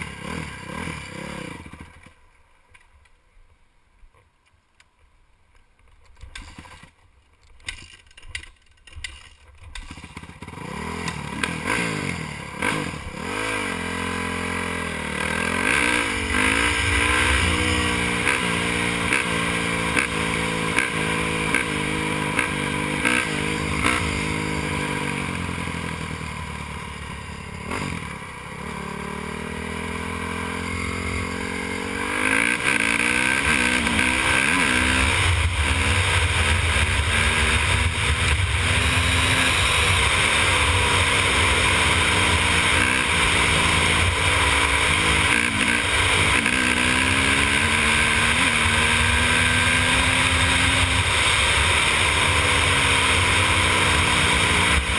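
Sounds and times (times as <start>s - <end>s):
motorcycle engine revving: 0.0s - 2.2s, 9.1s - 54.9s.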